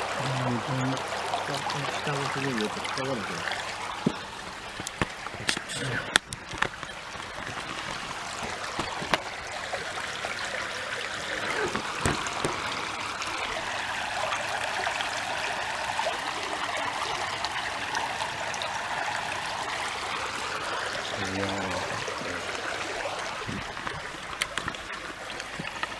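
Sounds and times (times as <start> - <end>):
flowing water rushing: 0.0 - 25.9.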